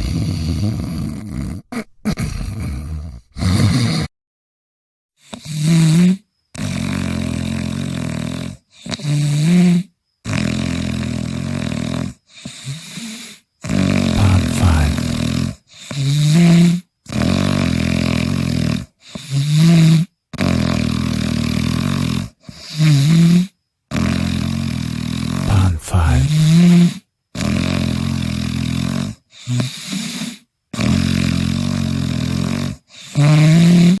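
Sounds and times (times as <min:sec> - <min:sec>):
person snoring: 0:00.0 - 0:04.1, 0:05.2 - 0:34.0.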